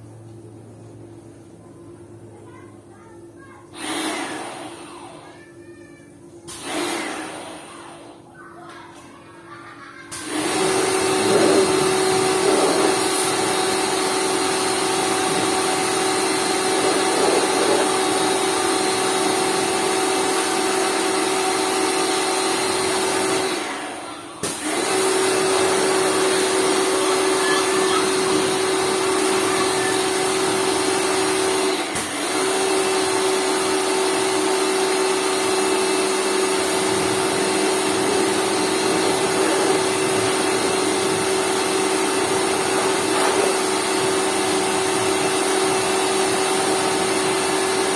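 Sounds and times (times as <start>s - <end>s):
electric pressure washer running: 3.7s - 5.3s, 6.5s - 8.3s, 10.0s - 47.9s.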